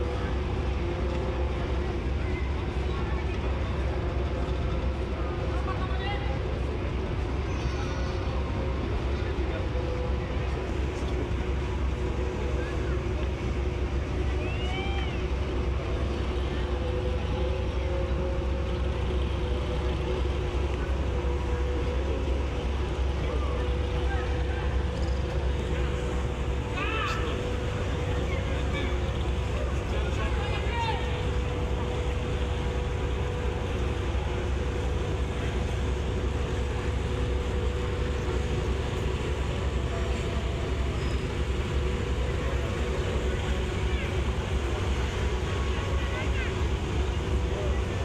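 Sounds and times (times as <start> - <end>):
droning hum: 0.0 - 48.0
ship engines rumbling: 0.0 - 48.0.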